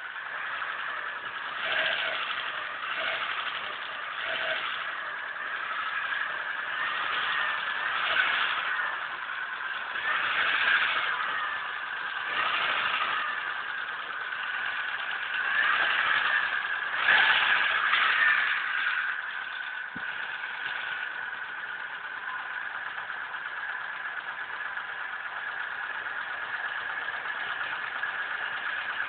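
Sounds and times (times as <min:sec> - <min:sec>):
car engine knocking: 0:00.0 - 0:29.0.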